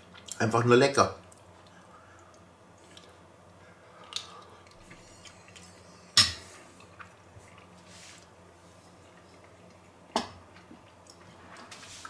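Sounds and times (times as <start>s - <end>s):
man chewing: 1.3s - 12.0s.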